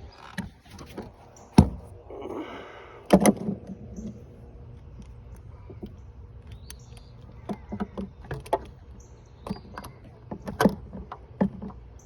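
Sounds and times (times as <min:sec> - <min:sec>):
tools clicking and clunking: 0:00.0 - 0:02.0, 0:03.0 - 0:12.0
low steady rumble: 0:00.0 - 0:12.0.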